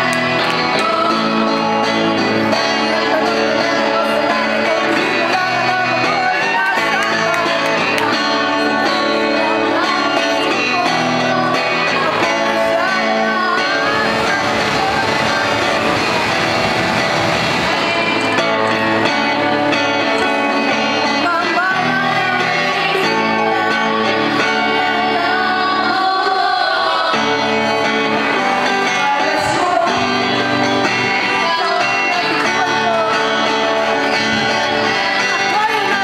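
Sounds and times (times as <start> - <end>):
woman singing: 0.0 - 16.6, 17.6 - 36.0
live band with electric guitars: 0.0 - 36.0.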